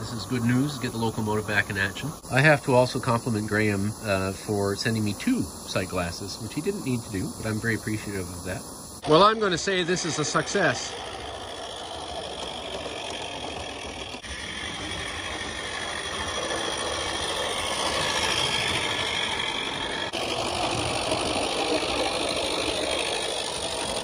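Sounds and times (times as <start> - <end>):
steam hissing: 0.0 - 24.0
train cars rolling on track: 0.0 - 24.0.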